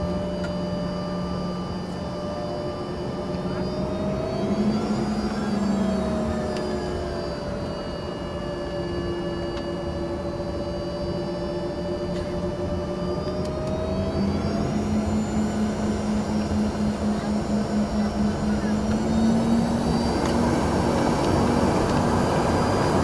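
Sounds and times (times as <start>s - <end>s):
jet engine whine and rumble: 0.0s - 23.0s.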